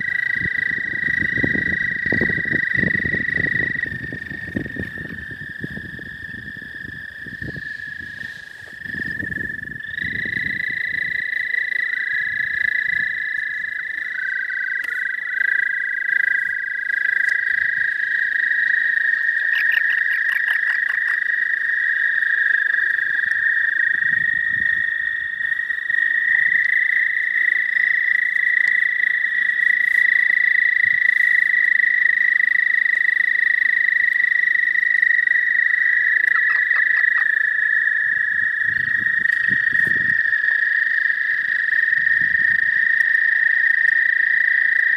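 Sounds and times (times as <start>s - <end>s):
toads trilling: 0.0s - 44.9s.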